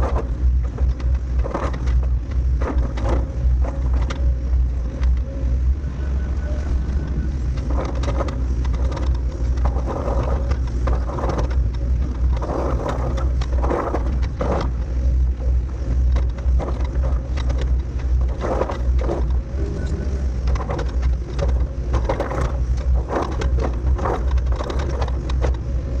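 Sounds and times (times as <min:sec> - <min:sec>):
crunching and scraping: 0:00.0 - 0:26.0
diesel engine running under load: 0:00.0 - 0:26.0.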